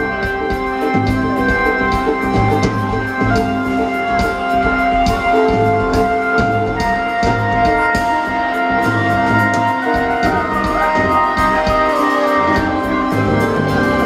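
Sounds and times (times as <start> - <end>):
drum kit beat: 0.0 - 14.0
live rock band playing: 0.0 - 14.0.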